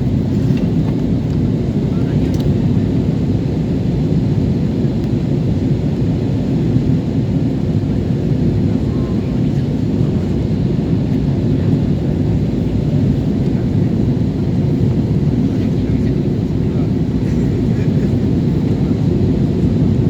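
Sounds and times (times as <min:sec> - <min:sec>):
jet airliner cabin rumble: 0:00.0 - 0:20.0.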